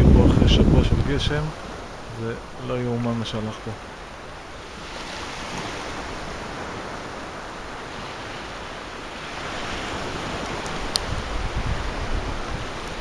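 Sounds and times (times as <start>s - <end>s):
small waves washing: 0.0s - 13.0s.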